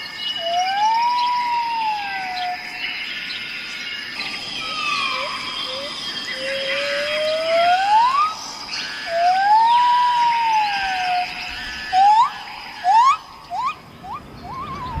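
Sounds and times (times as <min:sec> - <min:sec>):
insects buzzing: 0:00.0 - 0:15.0
bird whistling calls: 0:00.3 - 0:02.7, 0:04.2 - 0:15.0.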